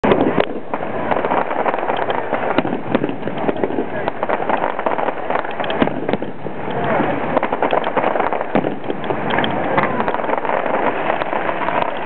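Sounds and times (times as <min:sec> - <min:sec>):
fireworks crackling and popping: 0:00.0 - 0:12.0
voices: 0:00.2 - 0:12.0.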